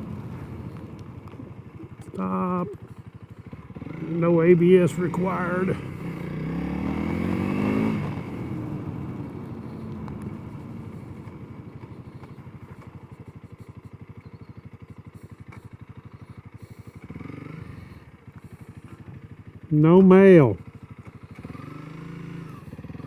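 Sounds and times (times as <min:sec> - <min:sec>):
motorcycle engine pulling away: 0:00.0 - 0:23.0.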